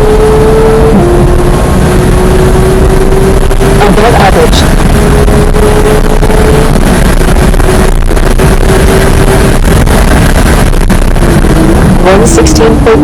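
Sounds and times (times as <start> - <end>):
car engine at high revs: 0.0 - 13.0
road and wind noise: 0.0 - 13.0.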